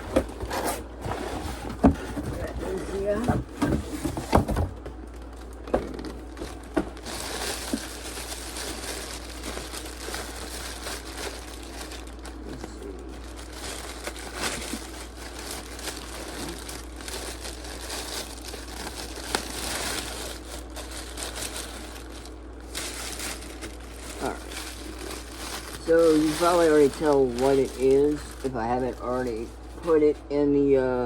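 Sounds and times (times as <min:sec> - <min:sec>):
packaging crinkling and rustling: 0:00.0 - 0:30.2.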